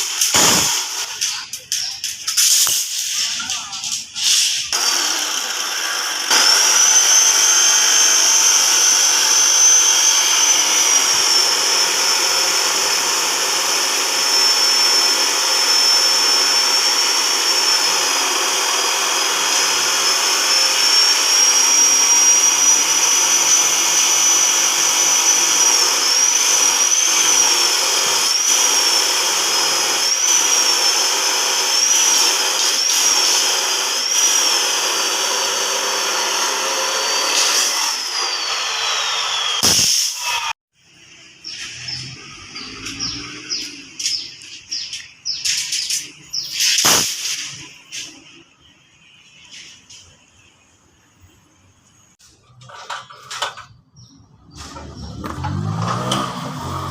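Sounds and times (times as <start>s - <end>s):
power tool whining: 0.0s - 40.6s, 41.4s - 47.7s, 54.5s - 56.9s.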